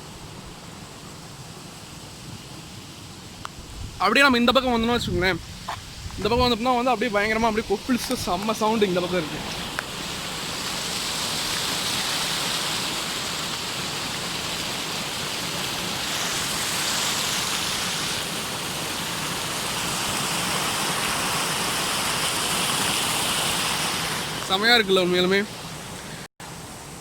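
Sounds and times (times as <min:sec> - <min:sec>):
stream water gushing: 0:00.0 - 0:27.0.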